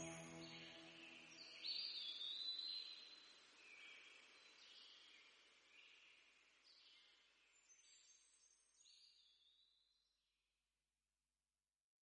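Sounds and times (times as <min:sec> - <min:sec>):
faint bird song: 0:00.0 - 0:10.2.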